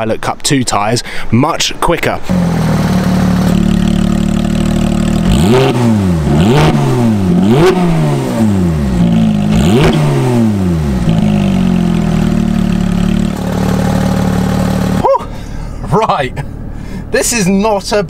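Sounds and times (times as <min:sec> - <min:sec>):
car engine idling and revving: 0:02.2 - 0:18.0.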